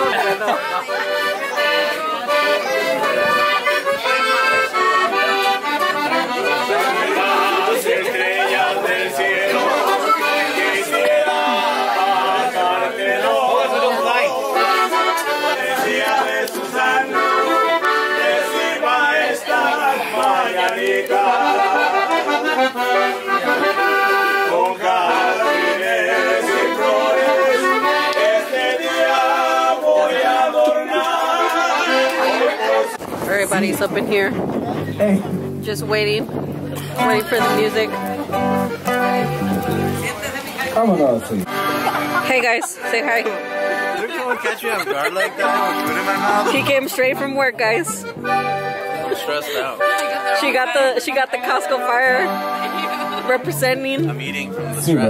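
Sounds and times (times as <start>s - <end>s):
accordion with live band: 0.0s - 55.0s.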